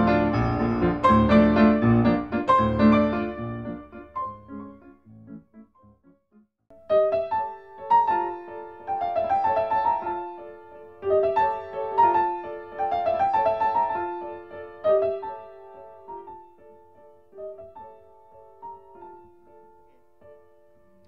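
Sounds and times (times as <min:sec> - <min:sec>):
piano melody over chords: 0:00.0 - 0:21.0.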